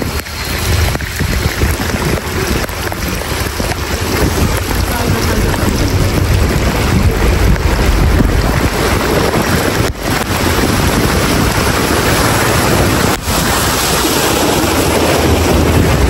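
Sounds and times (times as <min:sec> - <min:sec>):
car tyres splashing through water: 0:00.0 - 0:16.0
wind on microphone: 0:00.0 - 0:16.0.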